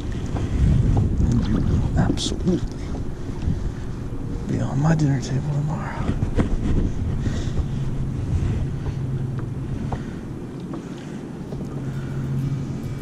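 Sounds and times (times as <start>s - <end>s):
steady low hum: 0.0s - 13.0s
wind on microphone: 0.0s - 13.0s.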